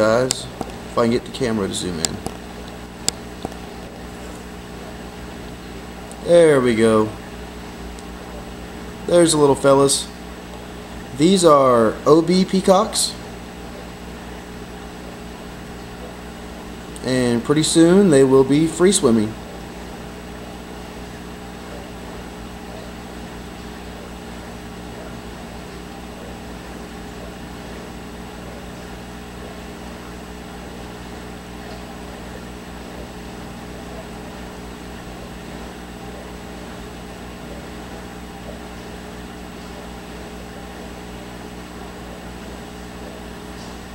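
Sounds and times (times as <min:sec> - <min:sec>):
aquarium air pump humming: 0:00.0 - 0:43.9.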